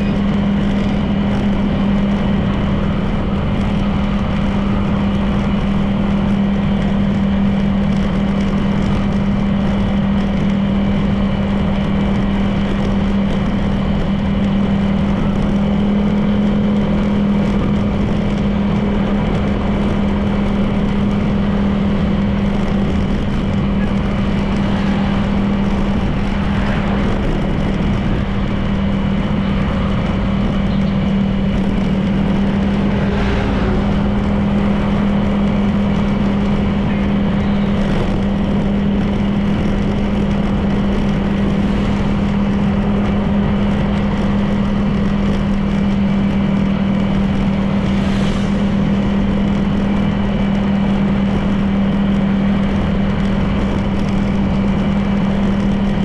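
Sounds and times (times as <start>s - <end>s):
road and wind noise: 0.0s - 56.0s
scooter engine droning: 0.0s - 56.0s.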